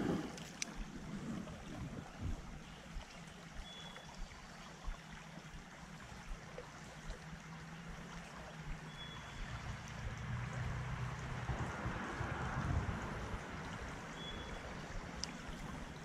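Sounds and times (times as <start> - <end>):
creek running over riffles: 0.0 - 16.0.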